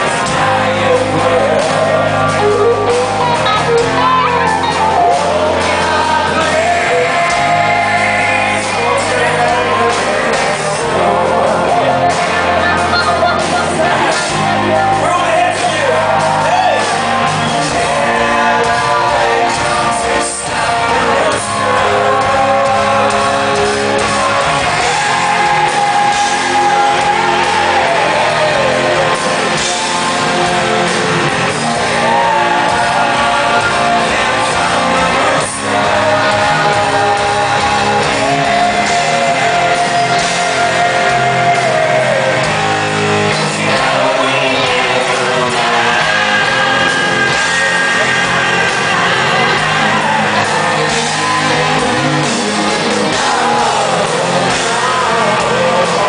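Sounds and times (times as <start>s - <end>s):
drums: 0.0s - 56.0s
electric guitars: 0.0s - 56.0s
person singing: 0.0s - 56.0s.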